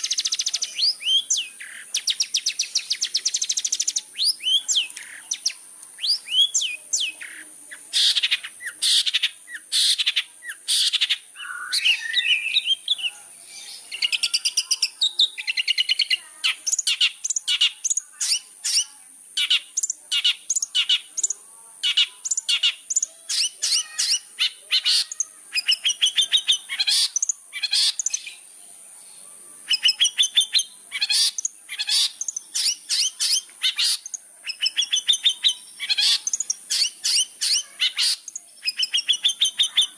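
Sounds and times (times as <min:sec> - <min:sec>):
bird singing chattering song: 0:00.0 - 0:39.9
high-pitched hiss: 0:00.0 - 0:39.9.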